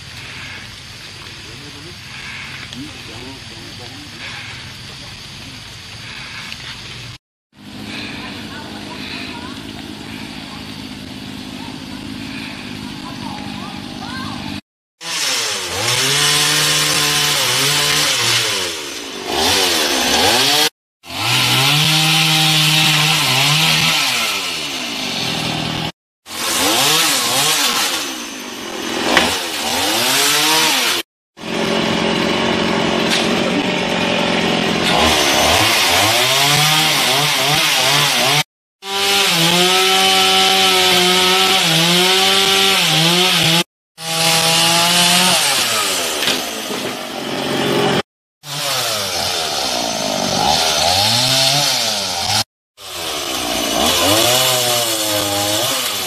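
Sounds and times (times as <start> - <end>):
chainsaw cutting wood: 7.6 - 56.0.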